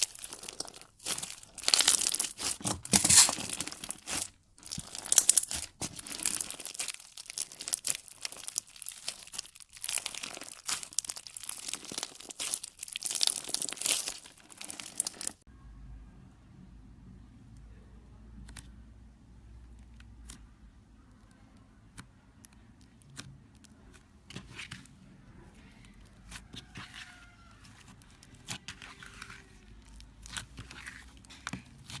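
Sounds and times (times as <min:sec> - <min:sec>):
crackling and crinkling: 0:00.0 - 0:15.5, 0:18.4 - 0:32.0.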